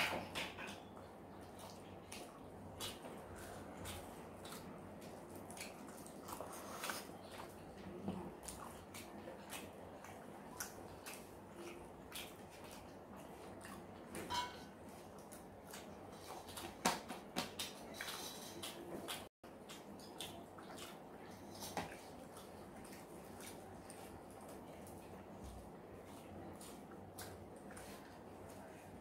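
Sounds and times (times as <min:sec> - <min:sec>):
chewing and lip smacks: 0:01.0 - 0:14.2, 0:17.4 - 0:28.9.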